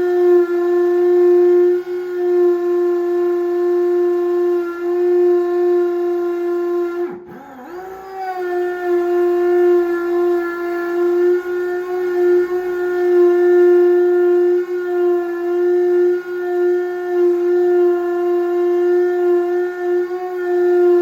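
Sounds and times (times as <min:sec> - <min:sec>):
power drill boring through tile: 0:00.0 - 0:21.0.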